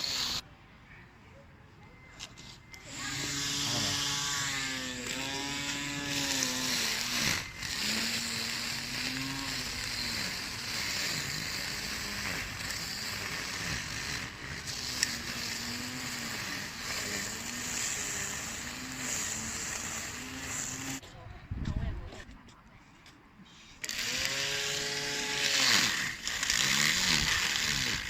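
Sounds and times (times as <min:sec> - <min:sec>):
lawn mower motor whirring: 0:00.0 - 0:00.4, 0:01.8 - 0:21.2, 0:23.8 - 0:28.0.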